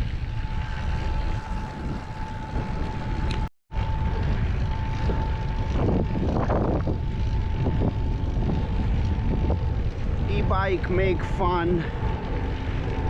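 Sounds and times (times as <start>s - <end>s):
thin steady whine: 0.0s - 13.0s
wind buffeting microphone: 0.0s - 13.0s.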